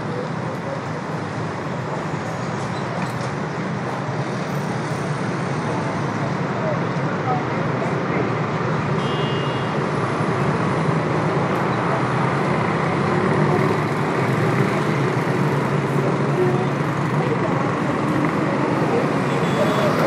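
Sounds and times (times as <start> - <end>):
dense road traffic: 0.0 - 20.0
vehicles passing close: 0.0 - 20.0.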